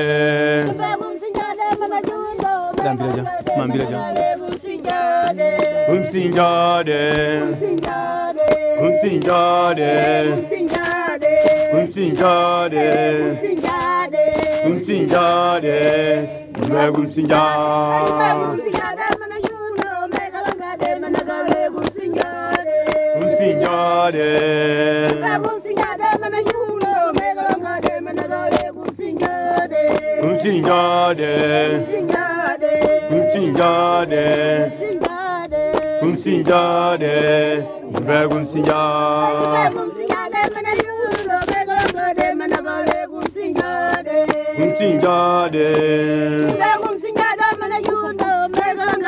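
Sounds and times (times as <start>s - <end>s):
quick sharp percussive beats: 0.0s - 49.0s
rhythmic hand clapping: 0.0s - 49.0s
voices chanting in long notes: 0.0s - 49.0s.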